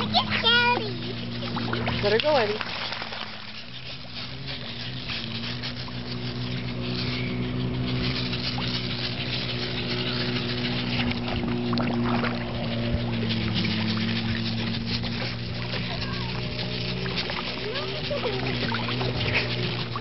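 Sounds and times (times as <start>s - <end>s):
low buzzing motor hum: 0.0s - 20.0s
water splashing and sloshing: 0.0s - 20.0s.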